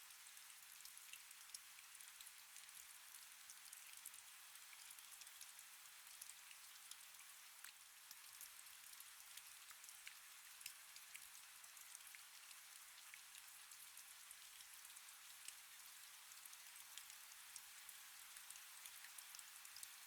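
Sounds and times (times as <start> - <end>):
faint rain: 0.0 - 20.0.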